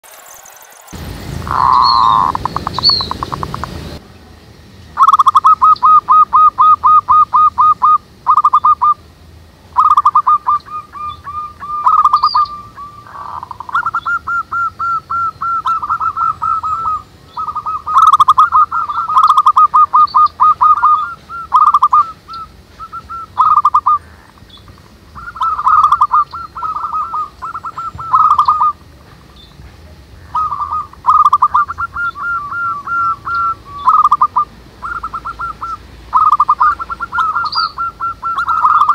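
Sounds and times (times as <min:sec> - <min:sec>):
faint bird chirps: 0:00.0 - 0:04.3, 0:05.0 - 0:09.0, 0:09.8 - 0:38.9
doves cooing: 0:01.4 - 0:04.0, 0:05.0 - 0:09.0, 0:09.8 - 0:38.9.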